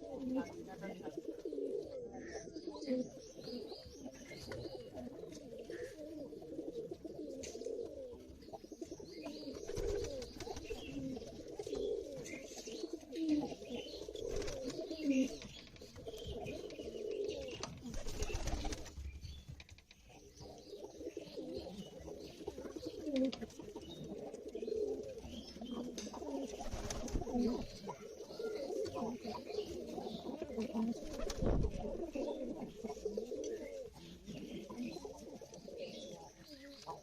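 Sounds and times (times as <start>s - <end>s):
pigeons cooing: 0.0s - 19.4s, 20.0s - 37.0s.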